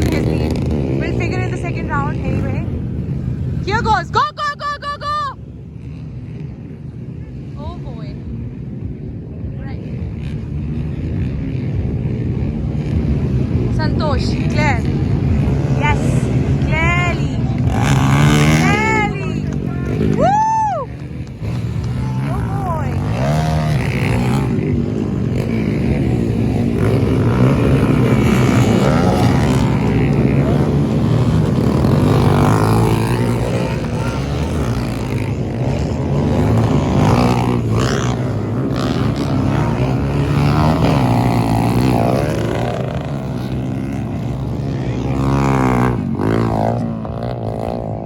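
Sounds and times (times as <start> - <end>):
off-road vehicle engine running: 0.0 - 48.0.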